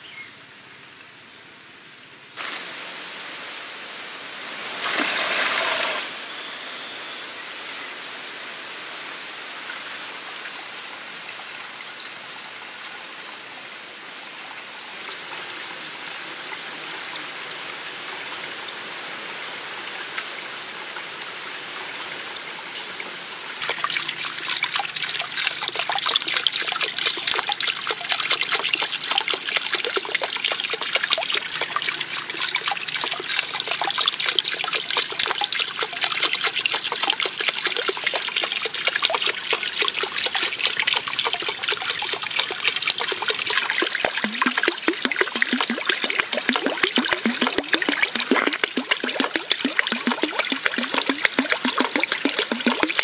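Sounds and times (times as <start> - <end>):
water trickling into a pond: 4.8 - 7.8, 9.2 - 53.0.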